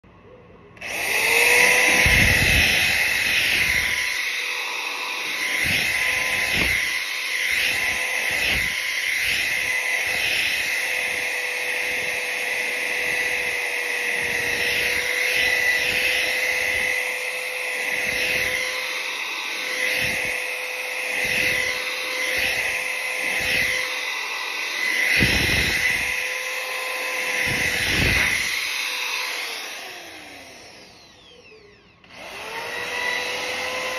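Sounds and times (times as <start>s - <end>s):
electric drill polishing metal: 0.8s - 33.9s.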